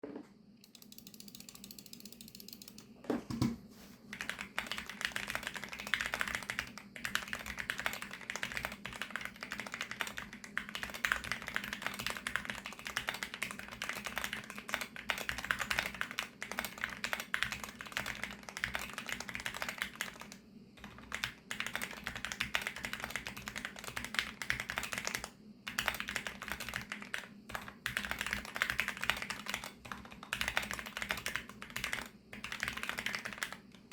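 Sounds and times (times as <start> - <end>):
mechanical keyboard typing: 0.6 - 3.5, 4.1 - 33.9.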